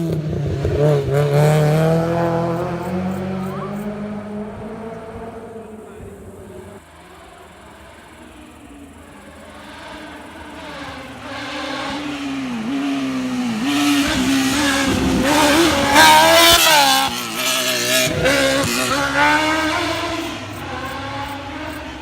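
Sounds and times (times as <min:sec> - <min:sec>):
car accelerating past: 0:00.0 - 0:22.0.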